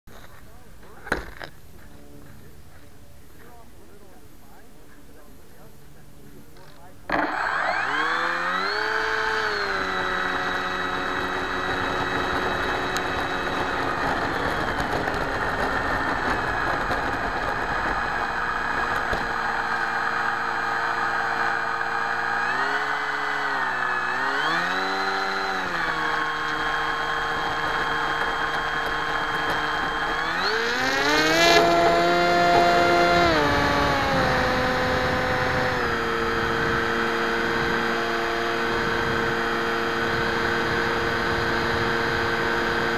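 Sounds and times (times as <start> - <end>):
electric motor and propeller whine: 0.1 - 42.9.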